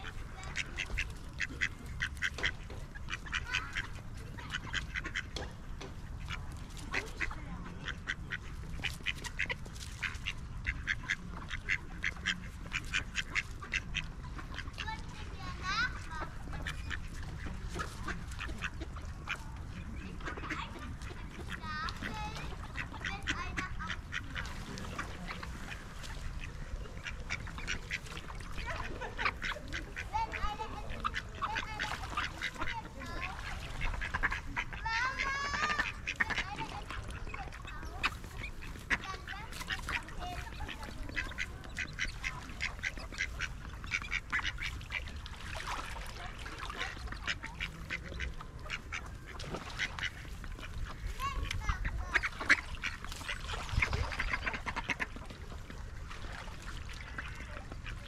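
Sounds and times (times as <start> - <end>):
ducks quacking: 0.0 - 58.0.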